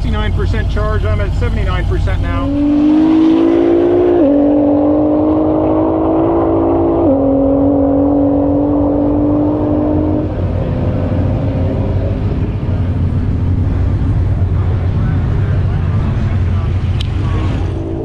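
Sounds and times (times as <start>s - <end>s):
car humming: 0.0s - 18.0s
low rushing noise: 0.0s - 18.0s.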